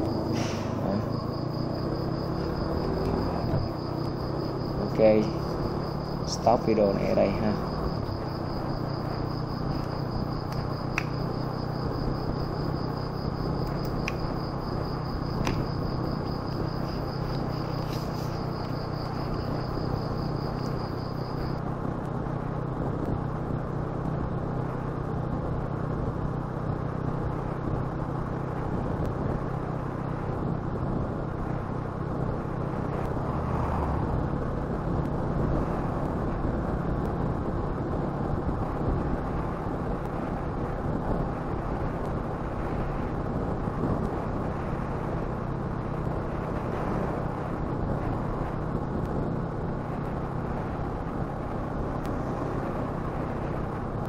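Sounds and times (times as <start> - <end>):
wind and tyre noise: 0.0 - 54.0.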